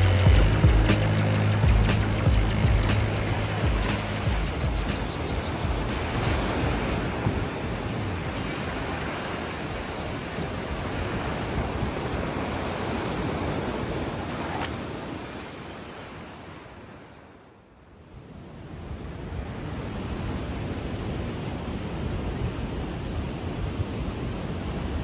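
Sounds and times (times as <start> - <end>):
ocean surf washing on beach: 0.0 - 25.0.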